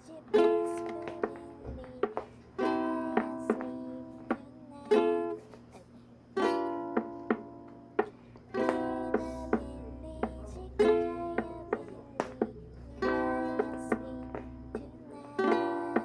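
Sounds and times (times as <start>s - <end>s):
ukulele chords strummed: 0.0s - 5.7s, 6.4s - 16.0s
plucked ukulele notes: 0.3s - 5.5s, 6.4s - 16.0s.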